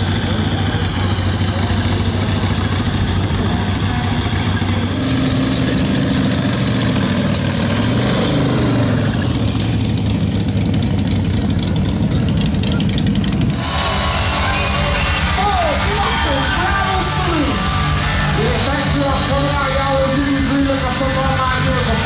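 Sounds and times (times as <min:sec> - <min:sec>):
motorcycle engines idling: 0:00.0 - 0:22.0.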